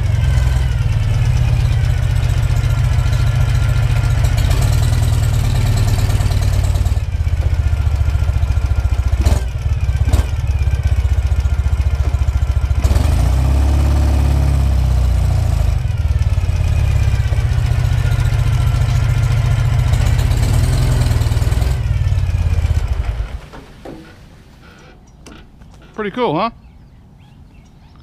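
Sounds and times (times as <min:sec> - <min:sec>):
motorcycle engine idling: 0:00.0 - 0:13.6, 0:14.5 - 0:24.1.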